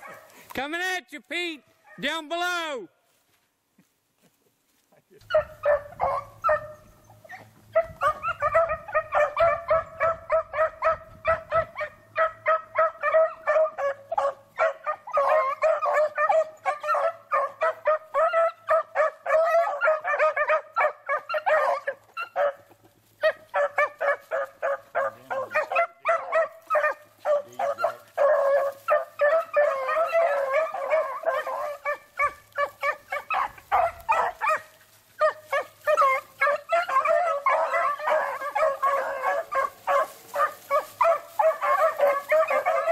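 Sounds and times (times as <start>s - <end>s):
pack of hounds baying: 0.0s - 0.5s, 5.2s - 42.9s.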